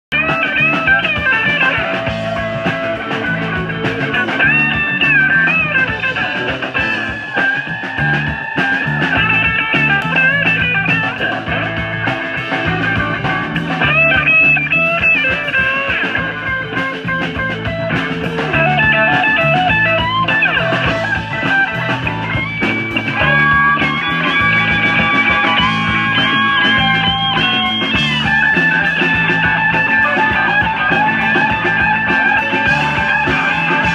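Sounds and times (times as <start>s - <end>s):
lead guitar bending melodic lines: 0.1s - 33.9s
steady bass line: 0.1s - 33.9s.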